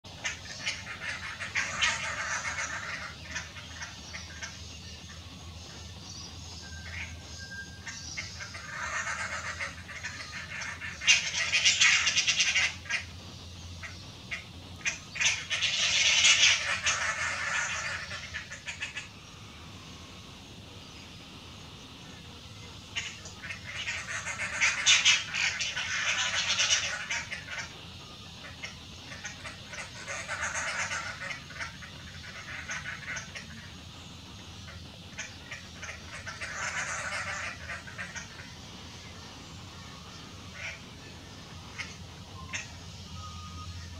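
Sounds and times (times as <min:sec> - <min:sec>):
birds chattering harshly: 0:00.0 - 0:43.9.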